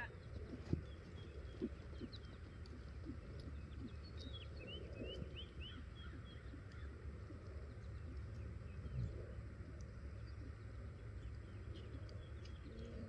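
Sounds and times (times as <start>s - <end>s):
horse hooves walking in sand: 0.0s - 13.0s
low outdoor rumble: 0.0s - 13.0s.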